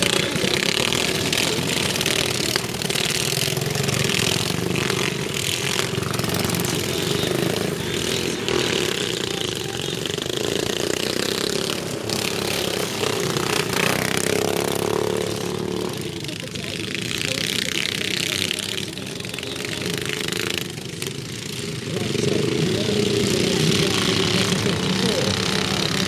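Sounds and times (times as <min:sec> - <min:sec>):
lawn mower engines racing: 0:00.0 - 0:26.0.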